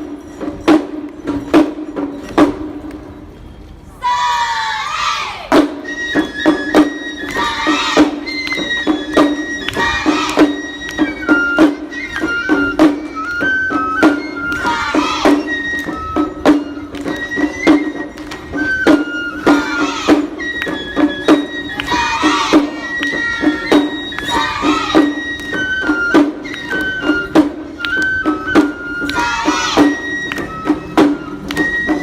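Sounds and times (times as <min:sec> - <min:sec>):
high flute melody: 0:04.0 - 0:32.0.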